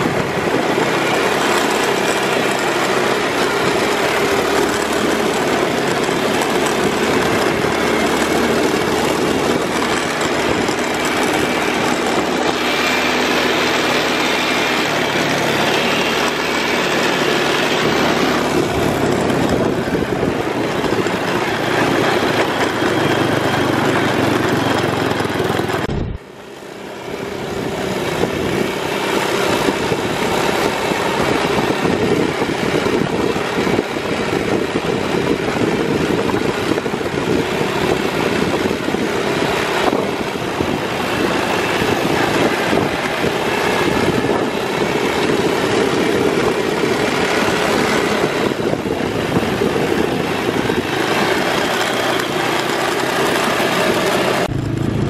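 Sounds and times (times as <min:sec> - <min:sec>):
buggy engine drone: 0:00.0 - 0:55.0
wind and road noise: 0:00.0 - 0:55.0.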